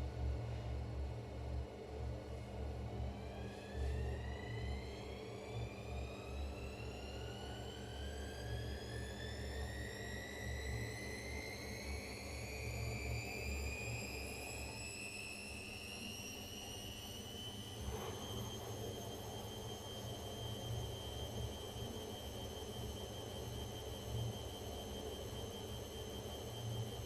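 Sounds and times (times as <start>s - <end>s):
washing machine motor whine: 3.0s - 27.0s.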